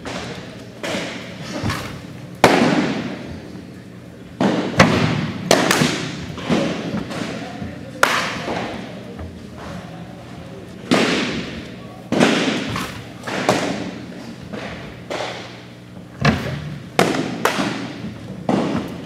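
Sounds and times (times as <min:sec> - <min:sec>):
baseballs smacking into mitts: 0:00.0 - 0:03.5, 0:04.4 - 0:08.9, 0:10.9 - 0:19.0.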